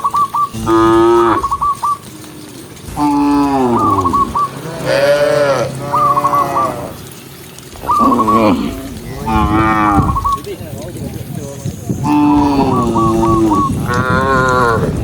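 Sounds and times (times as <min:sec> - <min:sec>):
cows mooing: 0:00.5 - 0:07.2, 0:07.8 - 0:10.5, 0:12.0 - 0:15.0.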